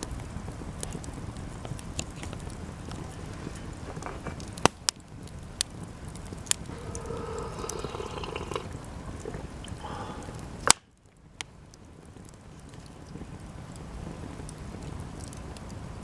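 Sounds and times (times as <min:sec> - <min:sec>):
campfire crackling: 0:00.0 - 0:16.0
whistling sizzle of burning wood: 0:00.0 - 0:16.0
wood popping in fire: 0:00.0 - 0:16.0.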